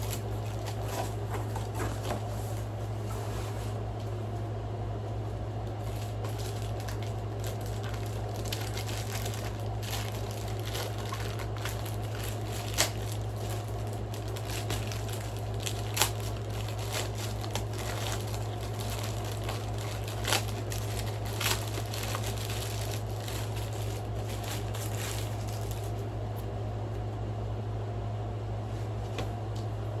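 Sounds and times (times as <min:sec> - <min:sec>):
packaging crinkling: 0:00.0 - 0:03.1, 0:05.1 - 0:26.5
steady low hum: 0:00.0 - 0:30.0.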